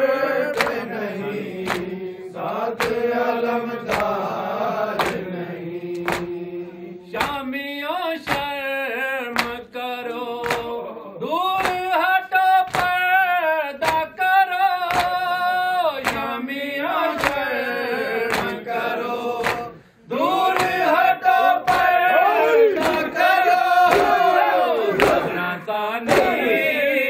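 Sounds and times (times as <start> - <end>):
men chanting a lament: 0.0 - 27.0
rhythmic chest-beating slaps: 0.0 - 27.0.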